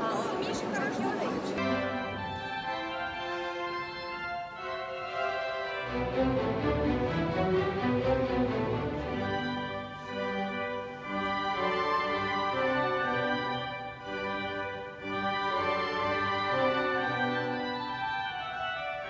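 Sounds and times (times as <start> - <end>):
orchestra playing classical music: 0.0 - 19.0.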